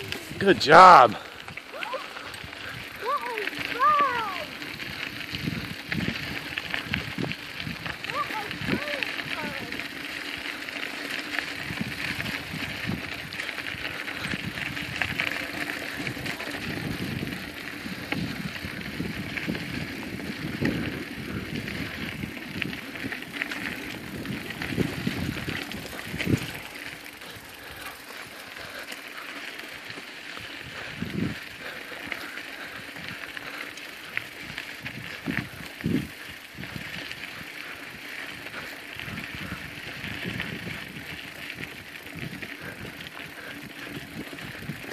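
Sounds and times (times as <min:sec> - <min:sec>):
bike tyres on dirt trail: 0:00.0 - 0:44.9.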